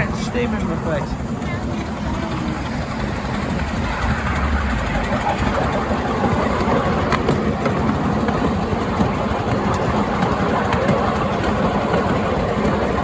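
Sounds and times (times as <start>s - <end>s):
miniature train engine and track noise: 0.0s - 13.0s.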